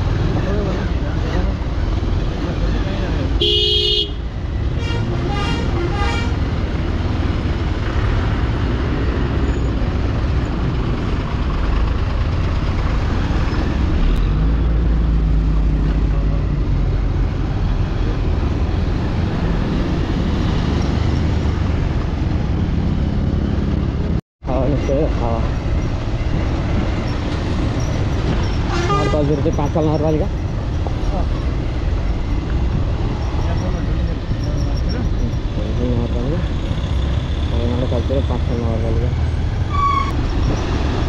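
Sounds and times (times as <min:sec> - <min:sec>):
bus passing: 0:00.0 - 0:41.0.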